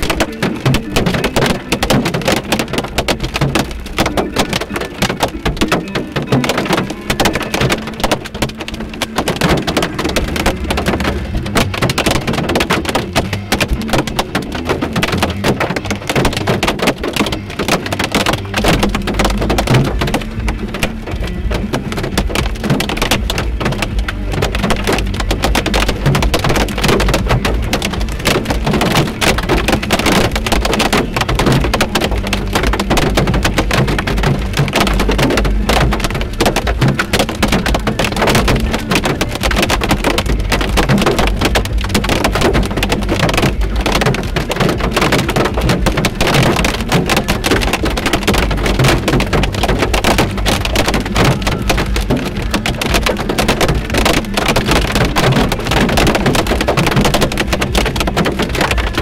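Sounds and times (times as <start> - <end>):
rain and hail on car roof: 0.0 - 59.0.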